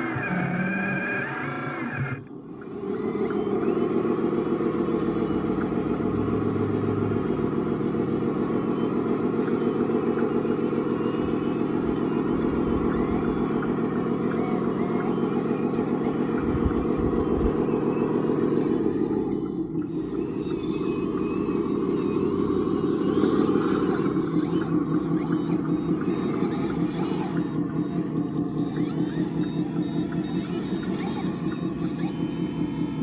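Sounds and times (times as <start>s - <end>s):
motor and gear drone: 0.0s - 33.0s.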